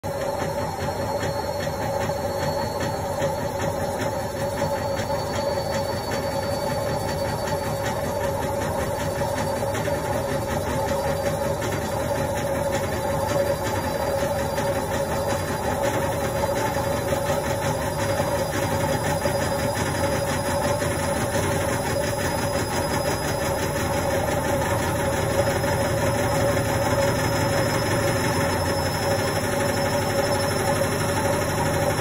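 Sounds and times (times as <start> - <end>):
washing machine spinning: 0.0 - 32.0.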